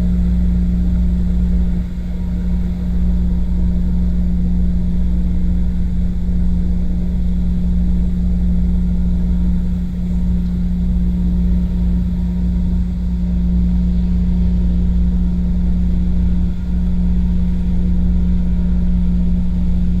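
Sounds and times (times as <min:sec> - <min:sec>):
boat diesel engine running: 0:00.0 - 0:20.0.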